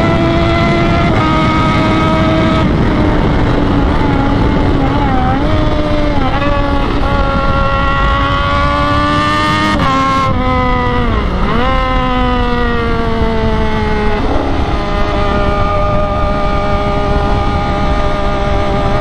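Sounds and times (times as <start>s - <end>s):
motorcycle engine at road speed: 0.0s - 19.0s.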